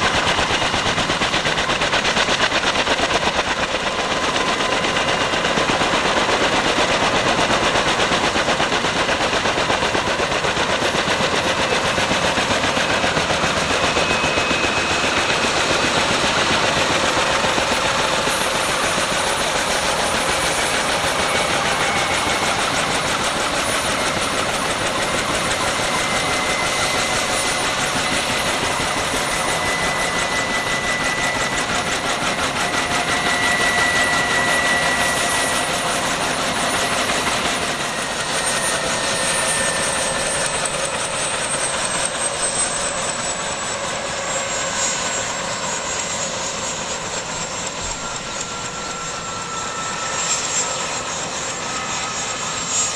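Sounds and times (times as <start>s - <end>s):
helicopter rotor chop: 0.0s - 52.9s
turbine whine: 0.0s - 52.9s.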